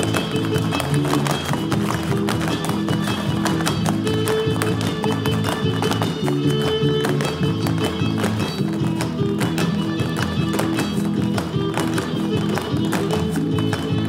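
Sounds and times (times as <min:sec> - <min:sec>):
lively dance music: 0:00.0 - 0:14.0
shoes tapping on wooden floor: 0:00.0 - 0:14.0.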